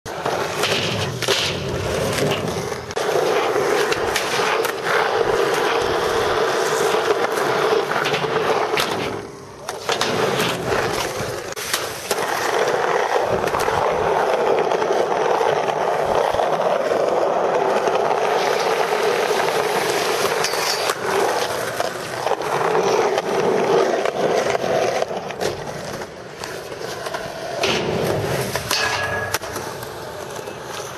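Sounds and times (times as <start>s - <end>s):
skateboard clacks: 0.1s - 30.9s
skateboard wheels rolling: 0.1s - 30.9s.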